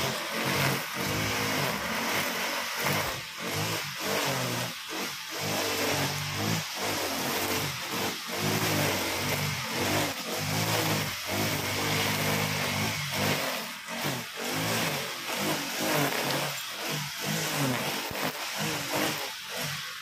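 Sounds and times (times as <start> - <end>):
brush cutter engine cutting grass: 0.0 - 20.0.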